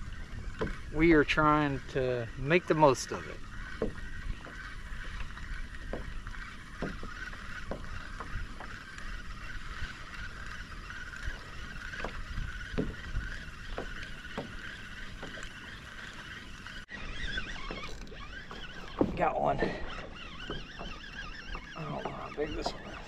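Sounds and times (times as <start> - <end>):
small waves slapping a hull: 0.0 - 23.0.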